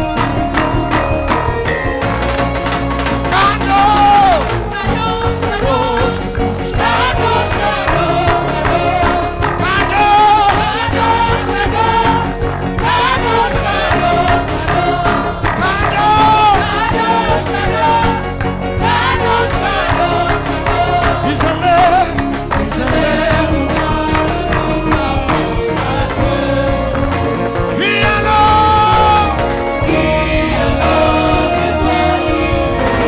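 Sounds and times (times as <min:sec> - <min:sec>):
gospel worship singing with band: 0:00.0 - 0:33.0.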